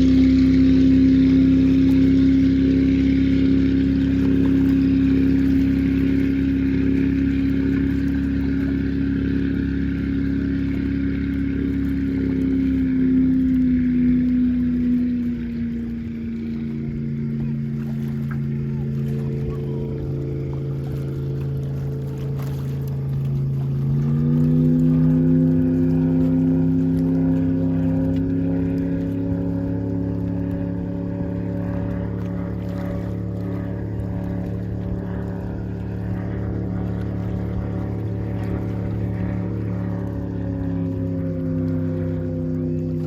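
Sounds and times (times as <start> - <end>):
speedboat engine running: 0.0 - 43.0.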